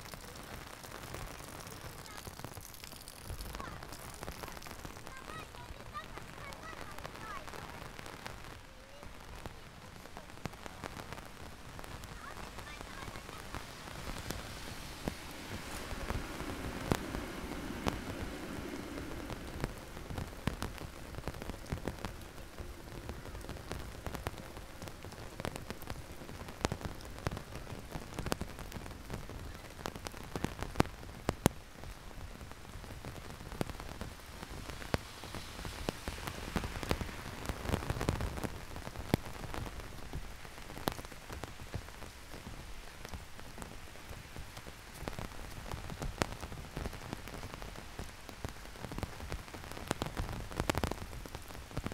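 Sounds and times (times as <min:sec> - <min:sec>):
heavy rain falling: 0:00.0 - 0:51.9
raindrops hitting close by: 0:00.0 - 0:51.9.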